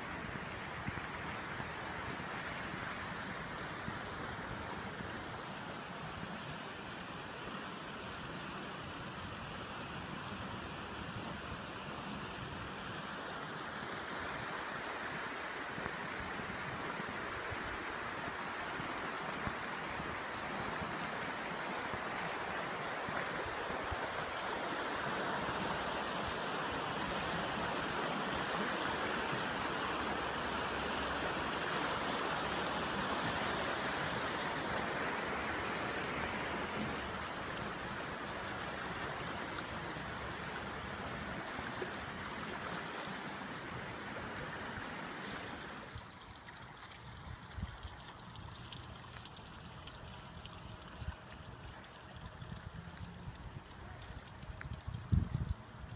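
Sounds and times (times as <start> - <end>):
floodwater rushing in a creek: 0.0 - 55.9.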